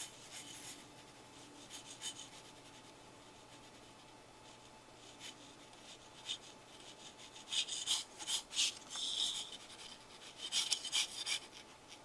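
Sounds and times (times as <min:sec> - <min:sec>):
marker scratching on paper: 0:00.0 - 0:12.0.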